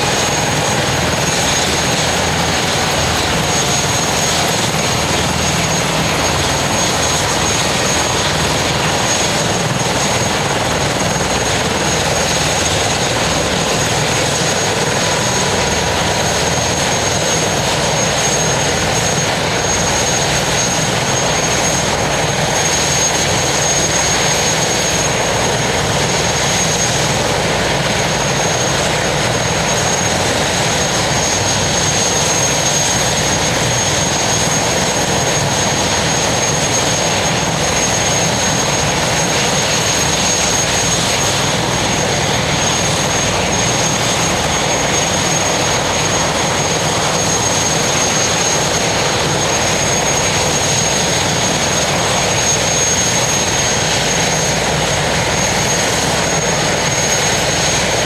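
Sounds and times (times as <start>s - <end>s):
helicopter rotor and engine: 0.0s - 58.0s
high turbine whine: 0.0s - 58.0s.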